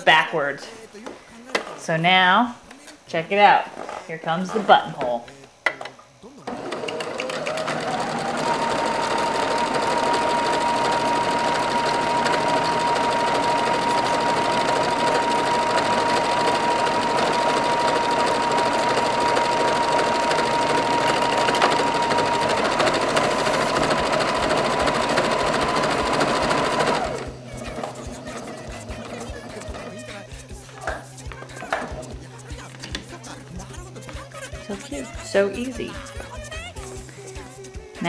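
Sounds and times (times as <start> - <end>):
sewing machine running: 6.4 - 37.0.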